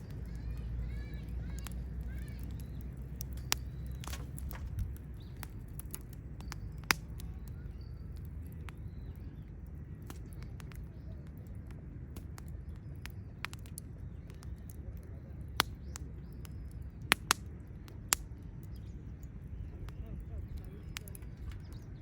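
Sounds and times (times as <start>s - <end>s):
low steady rumble: 0.0s - 22.0s
wood fire crackling and popping: 0.0s - 22.0s.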